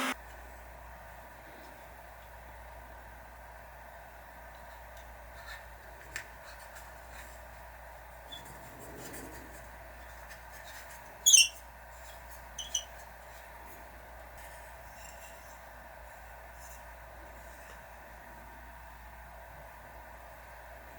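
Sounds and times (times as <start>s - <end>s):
steady hum: 0.0s - 20.9s.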